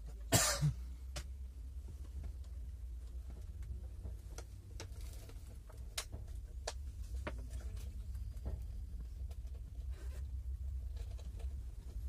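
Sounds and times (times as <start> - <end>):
train carriage hum: 0.0 - 12.0.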